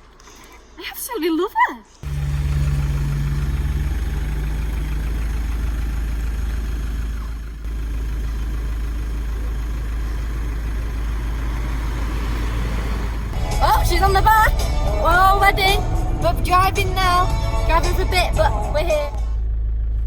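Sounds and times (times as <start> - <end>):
vehicle engine rumbling: 2.0 - 20.0.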